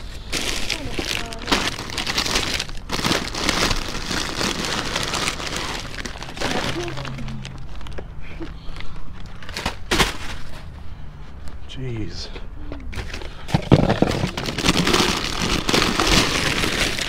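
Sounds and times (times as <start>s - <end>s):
bags and packaging rustling: 0.0s - 10.8s, 12.9s - 17.0s.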